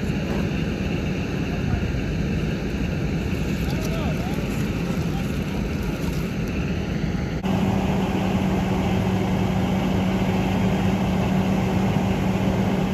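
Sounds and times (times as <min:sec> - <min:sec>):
fire engine pump humming: 0:00.0 - 0:12.9.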